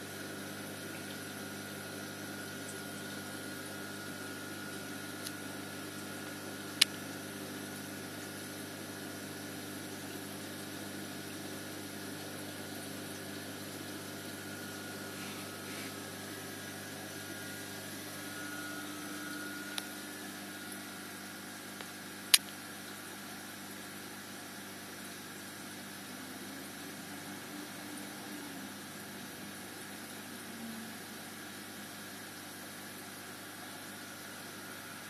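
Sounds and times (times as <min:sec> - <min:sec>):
aquarium pumps humming: 0:00.0 - 0:35.0.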